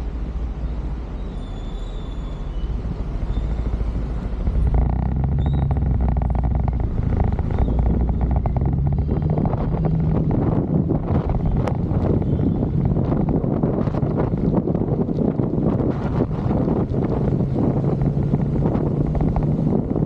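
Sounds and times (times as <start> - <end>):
wind rushing over microphone: 2.4 - 20.0
motorcycle engine running: 2.8 - 20.0.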